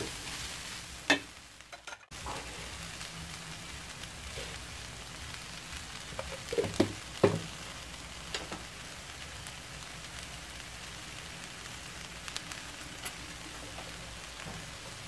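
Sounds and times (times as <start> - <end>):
vegetables sizzling in pan: 0.0 - 15.0.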